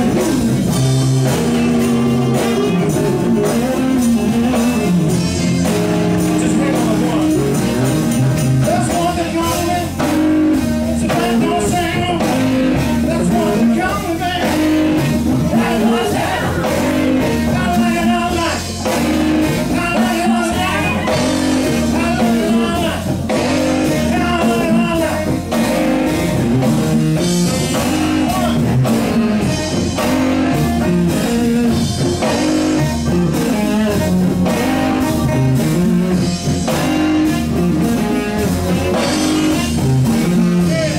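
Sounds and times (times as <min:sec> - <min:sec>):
bass guitar: 0:00.0 - 0:40.9
congas: 0:00.0 - 0:40.9
drums: 0:00.0 - 0:40.9
electric guitar: 0:00.0 - 0:40.9
keyboards: 0:00.0 - 0:40.9.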